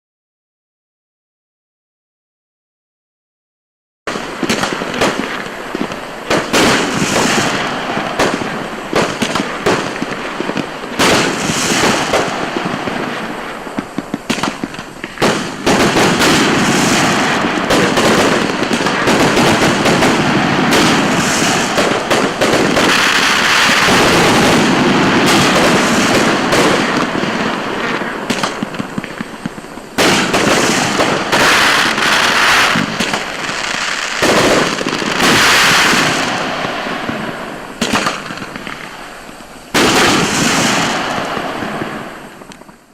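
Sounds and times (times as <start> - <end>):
firework crackling and popping: 4.1 - 42.9.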